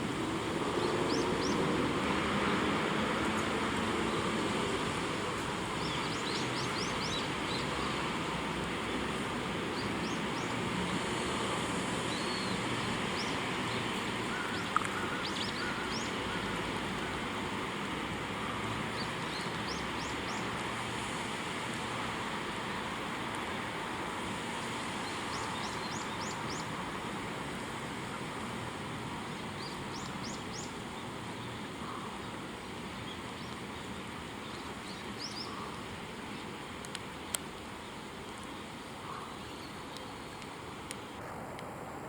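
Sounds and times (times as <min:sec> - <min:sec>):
background hiss and rumble: 0:00.0 - 0:42.0.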